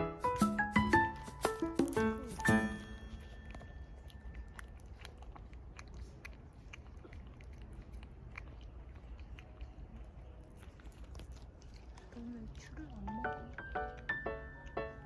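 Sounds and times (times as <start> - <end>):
cat crunching food: 1.0 - 15.0.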